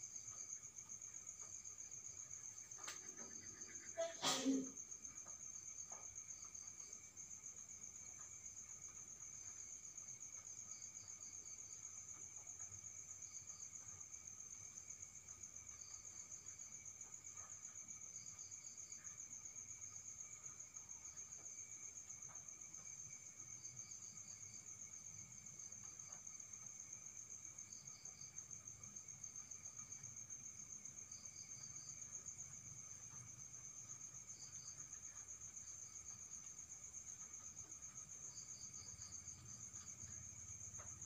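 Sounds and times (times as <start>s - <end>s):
lower cricket chirps: 0.0s - 41.0s.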